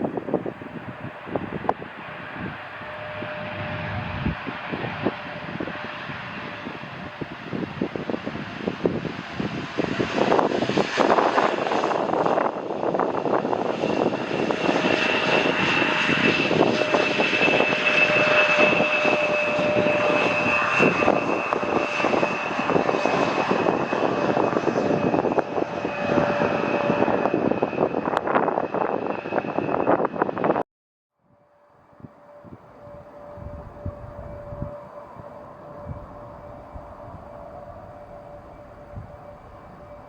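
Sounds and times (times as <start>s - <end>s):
high engine whine: 0.0s - 30.6s, 31.2s - 40.0s
jet engine roar: 0.0s - 30.6s, 31.4s - 40.0s.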